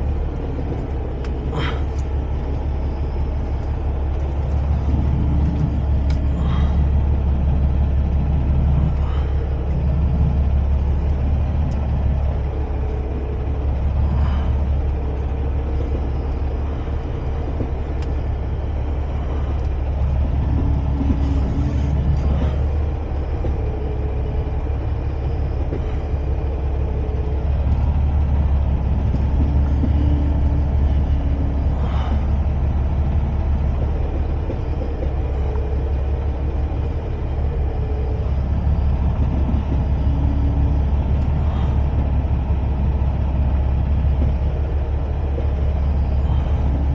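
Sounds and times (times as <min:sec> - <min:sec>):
diesel engine rumbling: 0:00.0 - 0:46.9.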